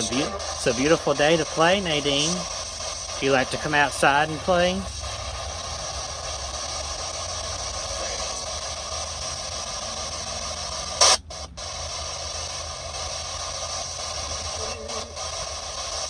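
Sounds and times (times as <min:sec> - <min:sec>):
short loud static burst: 0:00.0 - 0:16.0
static hiss: 0:00.0 - 0:16.0.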